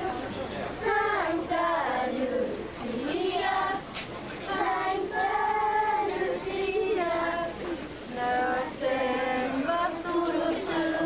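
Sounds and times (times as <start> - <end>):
children singing together: 0.0 - 11.0.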